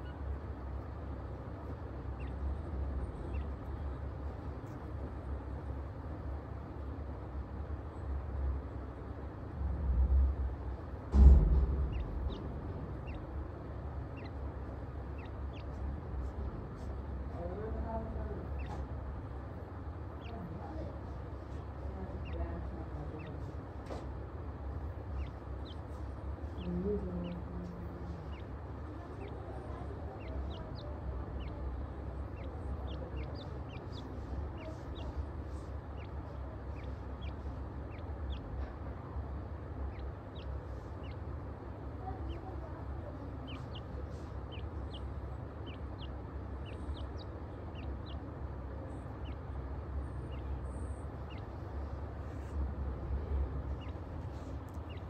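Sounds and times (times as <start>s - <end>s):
chicks peeping: 0.0s - 55.0s
steady low hum: 0.0s - 55.0s.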